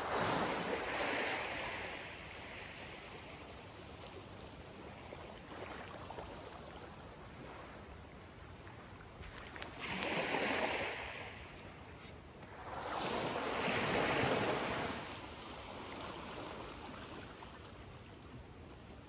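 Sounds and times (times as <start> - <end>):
small waves washing up sand: 0.0 - 19.0.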